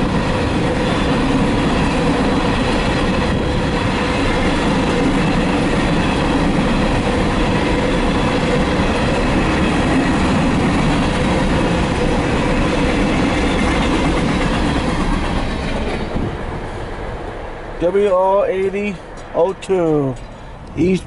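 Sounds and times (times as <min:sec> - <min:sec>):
freight train wheels rumbling on rail: 0:00.0 - 0:21.0.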